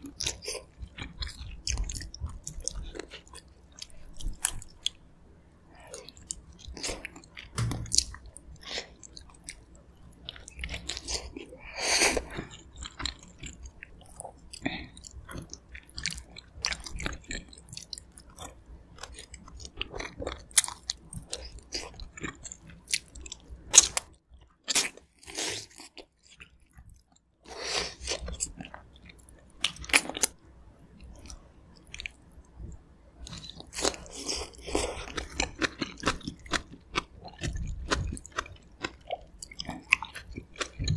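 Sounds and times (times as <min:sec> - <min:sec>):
chewing and biting with wet mouth sounds: 0:00.0 - 0:05.0, 0:05.8 - 0:30.4, 0:31.0 - 0:40.9.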